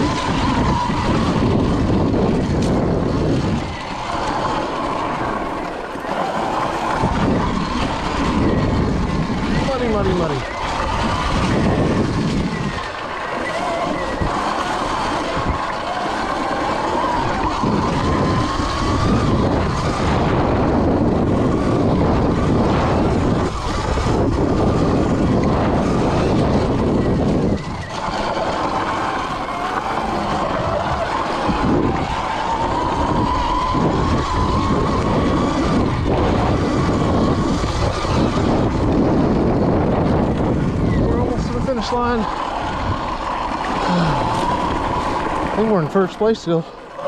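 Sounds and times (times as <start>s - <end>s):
tyre noise: 0.0s - 45.9s
electric motor whine: 0.0s - 47.0s
wind noise: 0.0s - 47.0s.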